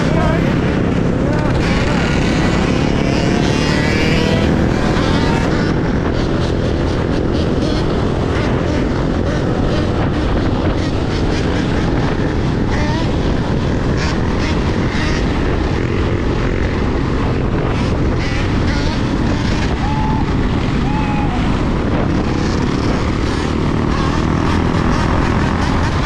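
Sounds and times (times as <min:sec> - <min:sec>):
wind and road rush: 0:00.0 - 0:26.0.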